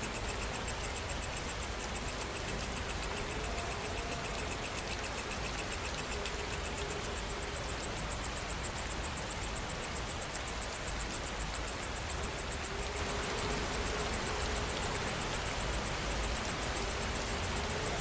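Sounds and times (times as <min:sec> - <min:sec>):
insect chirping: 0:00.0 - 0:18.0
steady rain falling: 0:00.0 - 0:18.0.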